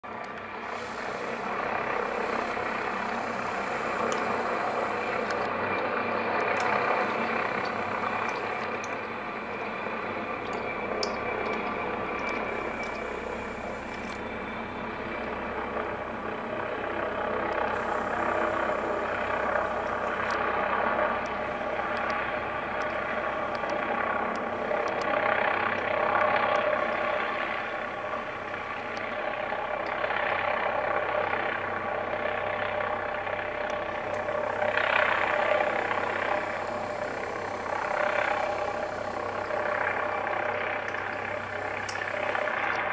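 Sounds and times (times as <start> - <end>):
helicopter hovering: 0.0 - 42.9.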